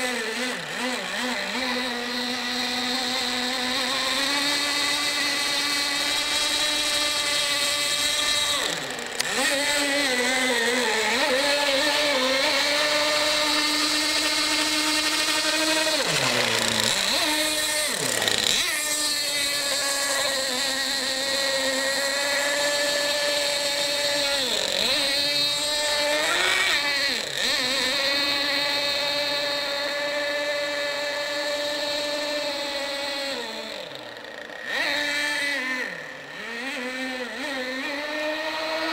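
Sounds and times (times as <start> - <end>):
toy boat motor whining: 0.0 - 38.9.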